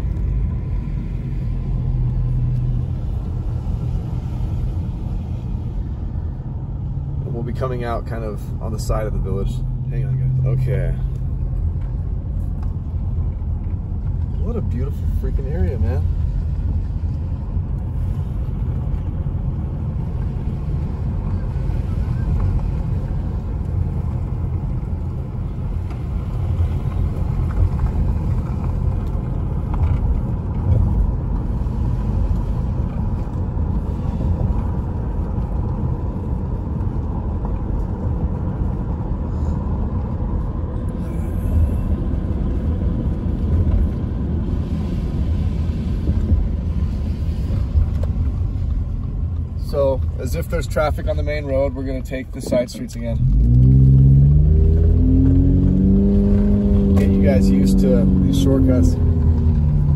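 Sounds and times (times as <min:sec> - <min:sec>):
car interior road rumble: 0:00.0 - 0:59.9
tyres on wet pavement: 0:00.0 - 0:59.9.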